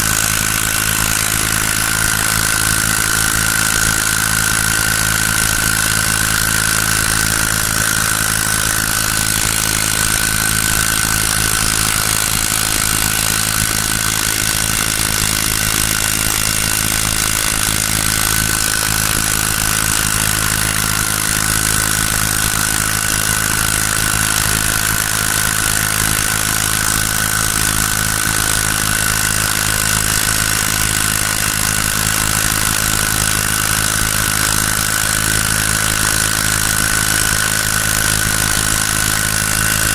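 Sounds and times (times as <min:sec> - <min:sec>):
small engine whining: 0:00.0 - 0:39.9.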